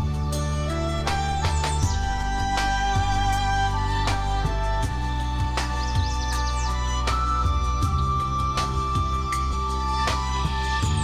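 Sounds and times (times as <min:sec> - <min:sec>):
calm relaxation music drone: 0:00.0 - 0:11.0.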